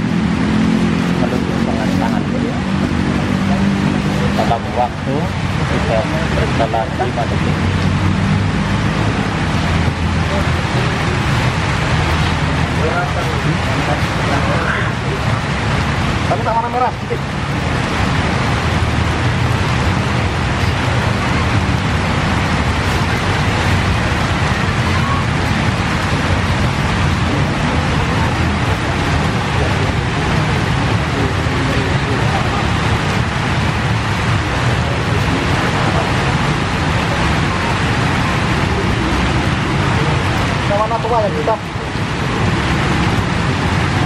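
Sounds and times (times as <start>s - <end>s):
rain falling: 0.0s - 44.0s.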